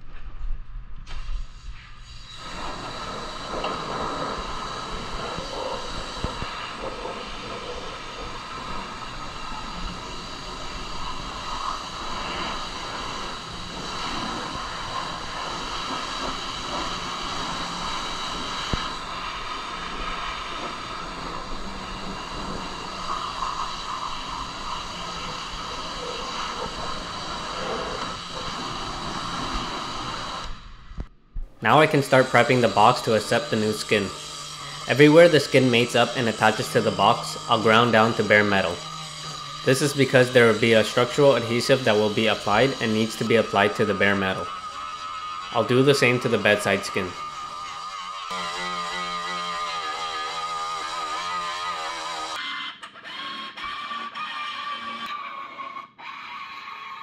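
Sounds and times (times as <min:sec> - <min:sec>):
pressure washer spraying on metal: 0:01.3 - 0:30.4, 0:31.7 - 0:52.4.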